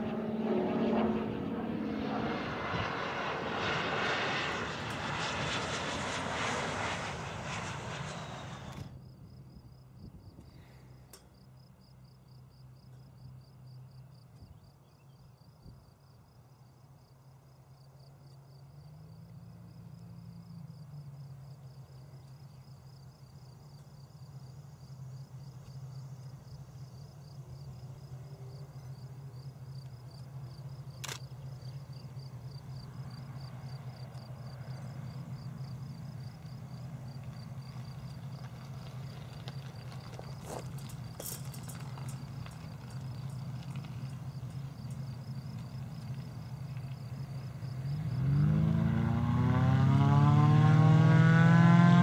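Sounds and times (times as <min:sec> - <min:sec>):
propeller aircraft engine drone: 0:00.0 - 0:52.0
cricket chirping: 0:02.3 - 0:49.9.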